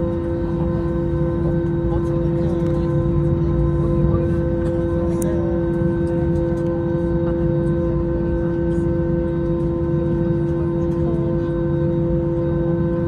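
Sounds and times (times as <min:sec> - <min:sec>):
jet engines heard from cabin: 0:00.0 - 0:13.0.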